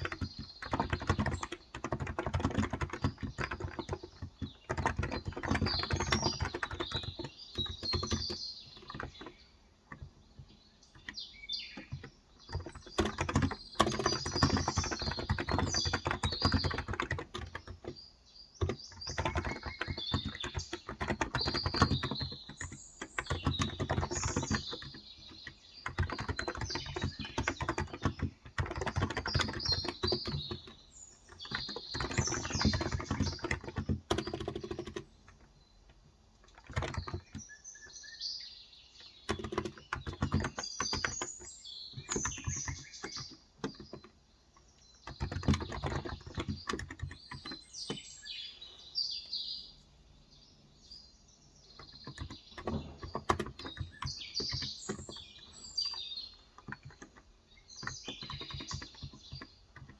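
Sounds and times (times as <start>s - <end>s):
keyboard typing: 0.0s - 18.0s, 18.6s - 37.5s, 39.0s - 44.2s, 44.8s - 48.2s, 51.6s - 59.9s
birds chirping faintly: 0.0s - 59.9s.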